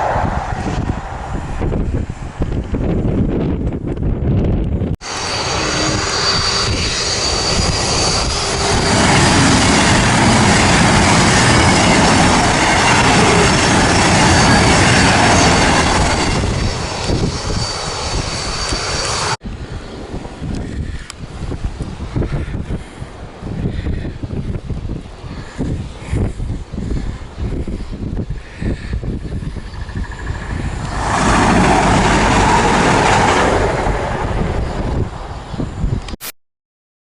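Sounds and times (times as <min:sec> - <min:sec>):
jet engine whine and rush: 0:00.0 - 0:36.2.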